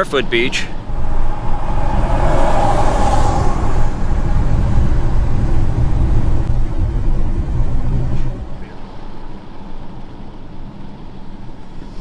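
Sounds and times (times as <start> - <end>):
road and wind noise rumble: 0.0 - 12.0
vehicle passing hiss: 0.8 - 12.0.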